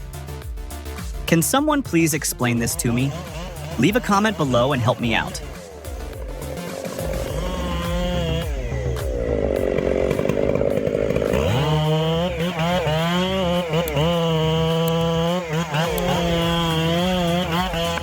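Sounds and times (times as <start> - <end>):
chainsaw cutting wood: 2.3 - 18.0.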